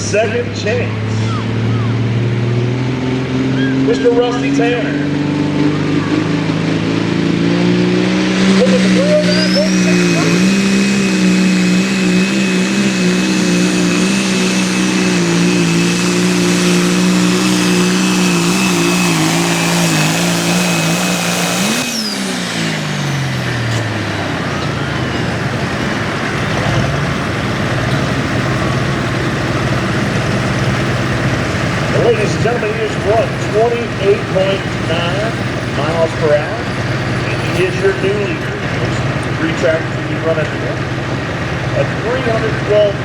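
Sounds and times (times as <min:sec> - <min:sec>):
tractor diesel engine revving: 0:00.0 - 0:43.0.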